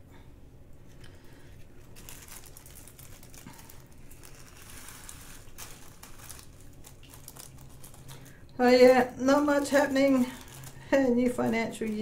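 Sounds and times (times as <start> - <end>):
plastic packets crinkling: 0.9 - 12.0.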